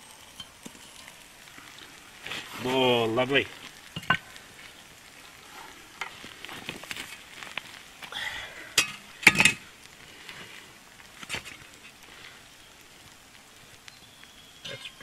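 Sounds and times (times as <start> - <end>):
meat sizzling: 0.0 - 15.0.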